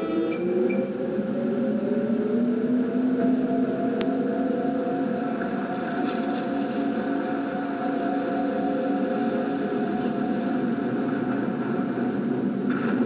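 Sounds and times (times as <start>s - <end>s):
futuristic engine hum: 0.0s - 13.0s.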